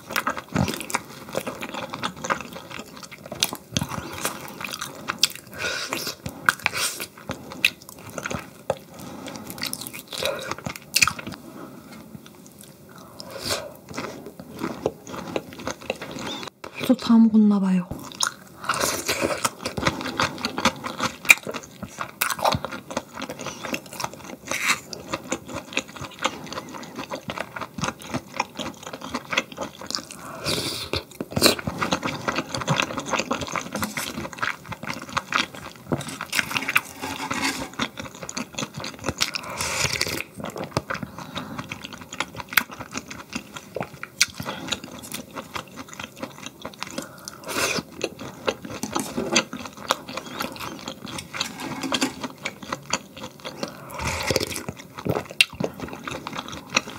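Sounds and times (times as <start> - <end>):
chewing: 0.0 - 16.8, 17.9 - 56.9.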